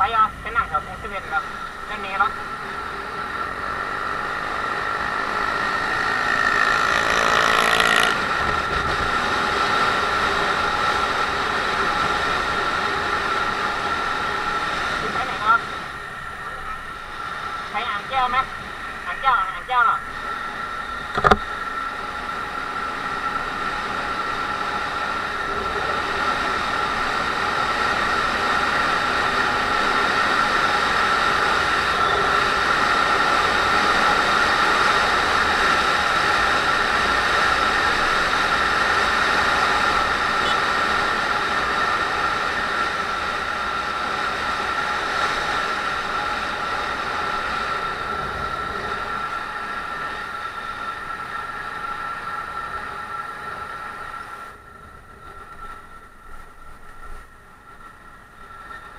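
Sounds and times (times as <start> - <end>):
motorcycle engine drone: 0.0 - 19.4, 20.1 - 58.9.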